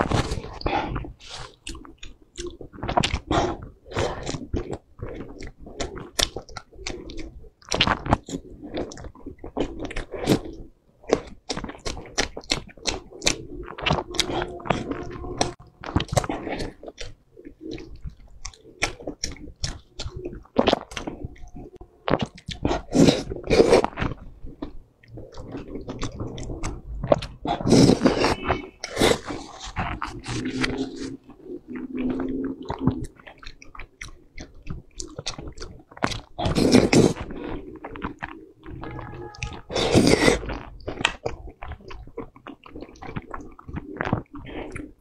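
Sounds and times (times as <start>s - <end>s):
chewing noodles wet squelches: 0.0s - 45.0s.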